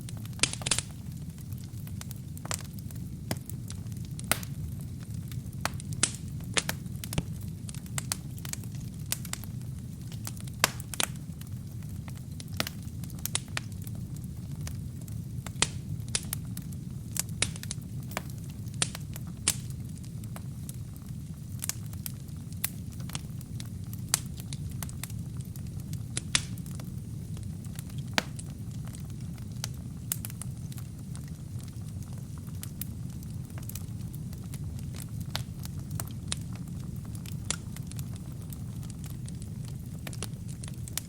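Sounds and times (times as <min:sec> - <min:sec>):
fire crackles and pops: 0:00.0 - 0:41.0
fire flames rumbling: 0:00.0 - 0:41.0.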